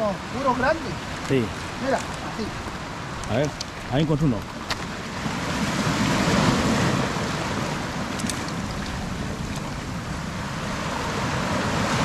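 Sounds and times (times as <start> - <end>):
surf washing against rocks: 0.0 - 12.0
wind buffeting microphone: 0.7 - 12.0.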